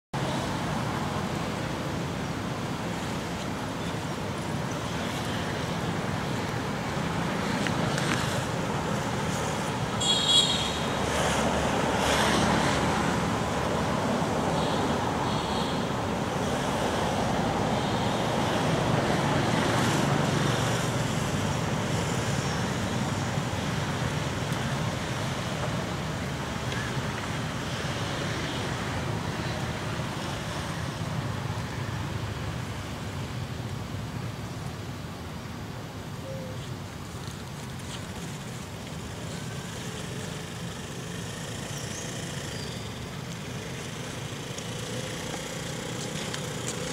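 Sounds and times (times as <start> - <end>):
distant road traffic: 0.2 - 46.9.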